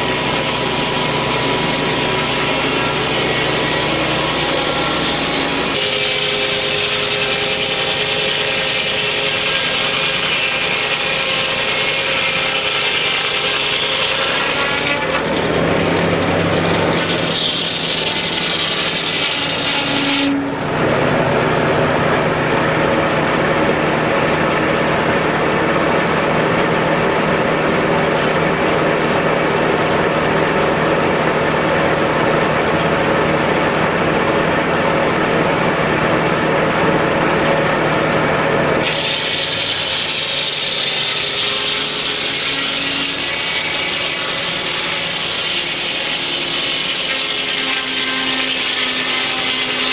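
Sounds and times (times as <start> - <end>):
circular saw blade cutting log: 0.0 - 49.9.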